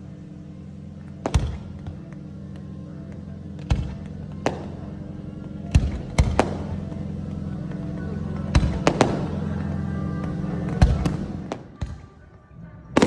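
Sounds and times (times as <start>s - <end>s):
fireworks bangs: 0.1s - 12.3s.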